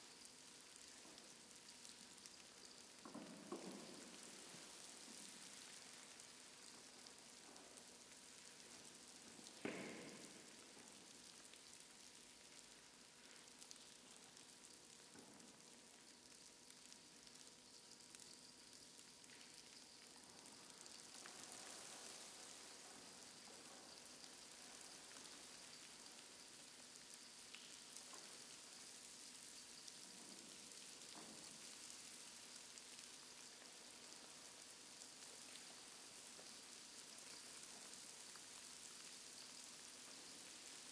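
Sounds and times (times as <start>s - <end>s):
faint steady hiss: 0.0s - 40.9s
soft crackles: 0.0s - 40.9s.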